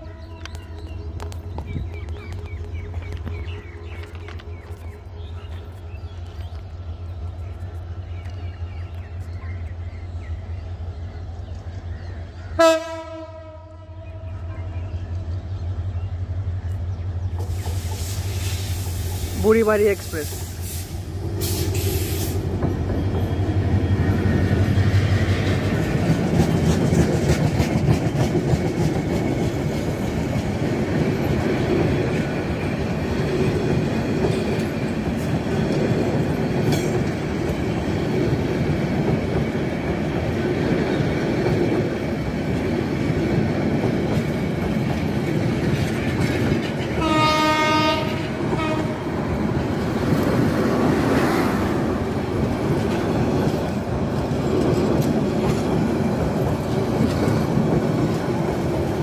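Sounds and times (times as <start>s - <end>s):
diesel locomotive engine drone: 0.0s - 59.0s
wheel-on-rail rumble: 0.1s - 12.6s, 20.3s - 59.0s.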